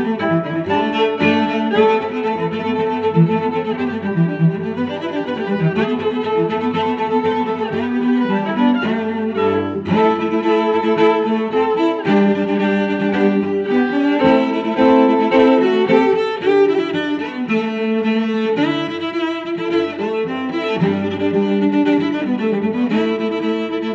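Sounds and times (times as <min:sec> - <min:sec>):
violin and cello music: 0:00.0 - 0:23.9.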